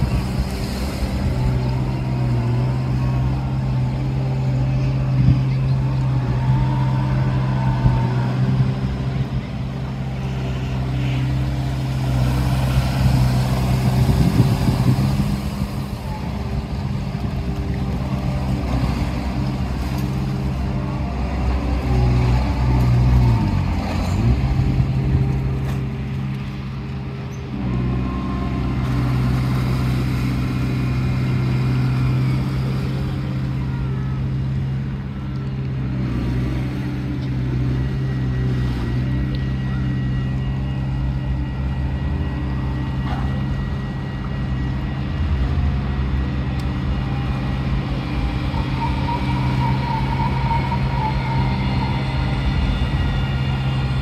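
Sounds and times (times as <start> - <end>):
boat engine humming: 0.0 - 54.0.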